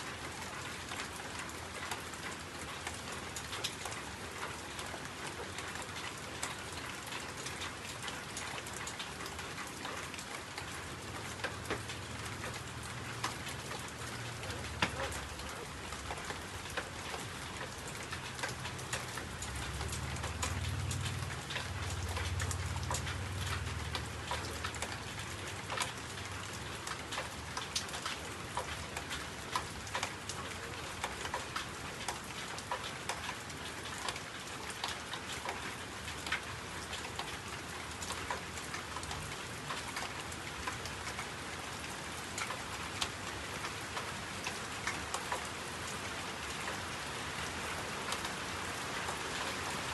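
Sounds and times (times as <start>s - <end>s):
rain drops on hard surface: 0.0s - 49.9s.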